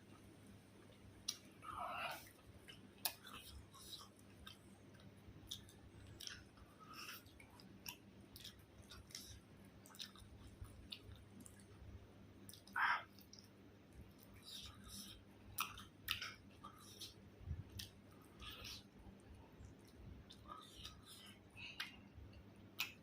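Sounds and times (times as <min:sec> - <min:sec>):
person chewing food: 0:00.8 - 0:23.0.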